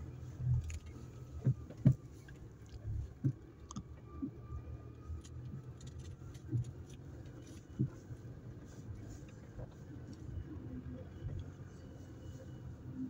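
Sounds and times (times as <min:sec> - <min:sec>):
car driving rumble from inside: 0:00.0 - 0:13.0.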